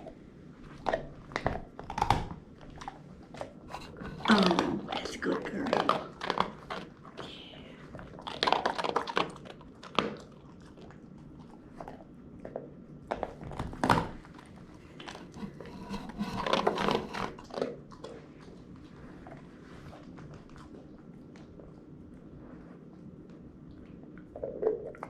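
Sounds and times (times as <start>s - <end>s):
pet crunching a chew toy: 0.0s - 25.0s.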